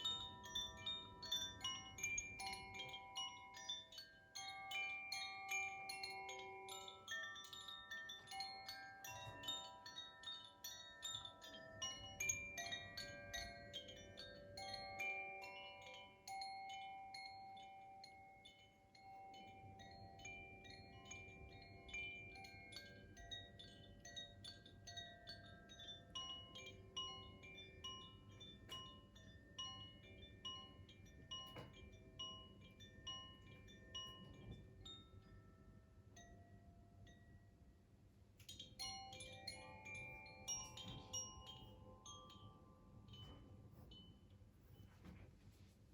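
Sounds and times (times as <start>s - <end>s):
chimes ringing: 0.0s - 37.4s, 38.5s - 44.9s.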